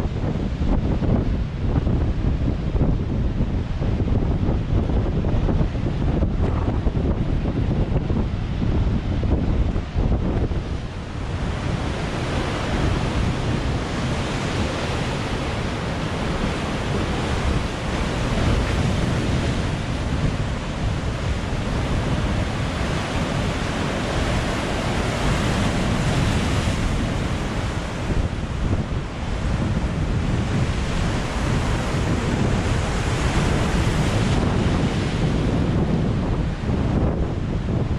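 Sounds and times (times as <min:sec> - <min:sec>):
sea surf washing: 0:00.0 - 0:37.9
wind buffeting microphone: 0:00.0 - 0:37.9.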